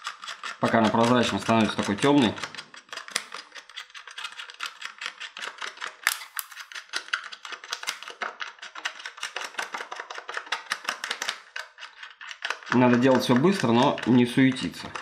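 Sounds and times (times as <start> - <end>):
stick scraping plastic cup: 0.0 - 15.0.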